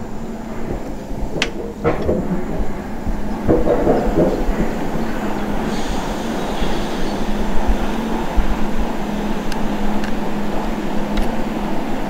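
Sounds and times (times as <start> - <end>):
diesel locomotive running: 0.0 - 12.0
wheels rumbling on rails: 0.0 - 12.0.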